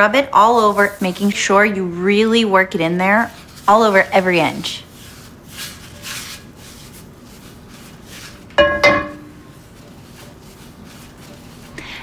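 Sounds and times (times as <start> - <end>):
paper towel scrubbing skillet: 0.0 - 12.0.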